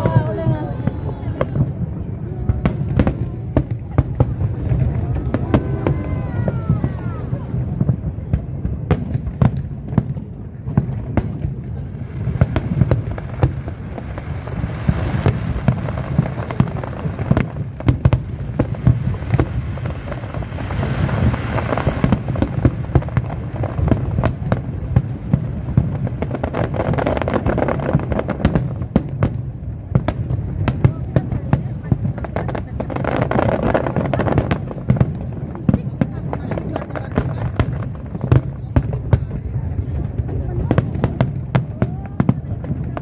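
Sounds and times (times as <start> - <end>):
firework bangs and crackles: 0.0 - 43.0.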